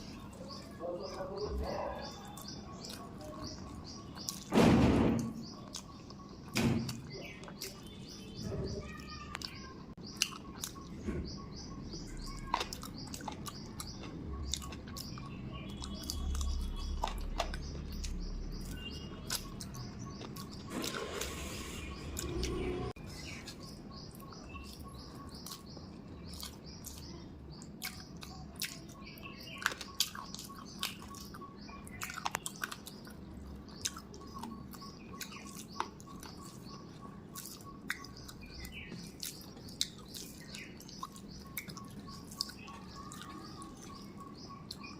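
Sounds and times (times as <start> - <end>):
birds chirping: 0.0 - 44.9
person chewing food: 2.2 - 4.5, 9.4 - 11.0, 11.8 - 44.9.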